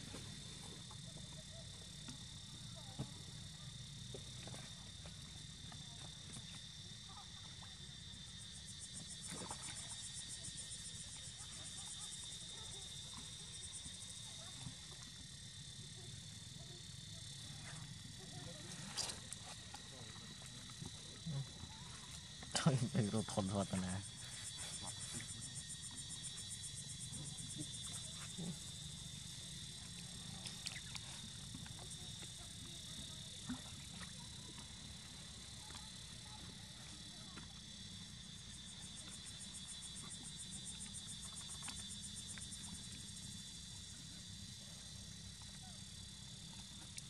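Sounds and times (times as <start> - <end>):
insects chirring: 0.0 - 47.0.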